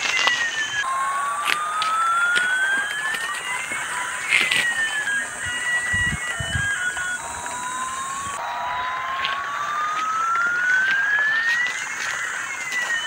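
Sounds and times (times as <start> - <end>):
toy jet engine whistling tone: 0.0 - 13.0.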